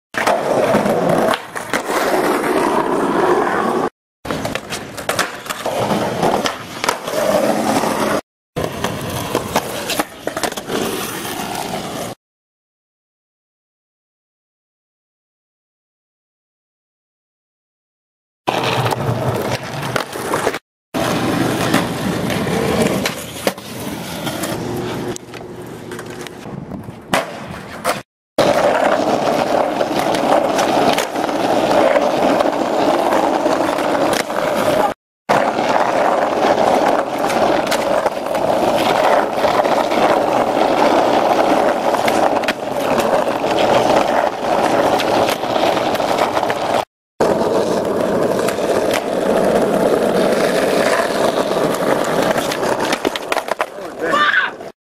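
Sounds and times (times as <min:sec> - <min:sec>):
skateboard hitting ground: 0:00.2 - 0:12.2, 0:18.5 - 0:54.7
skateboard wheels rolling on asphalt: 0:00.2 - 0:12.2, 0:18.5 - 0:54.8.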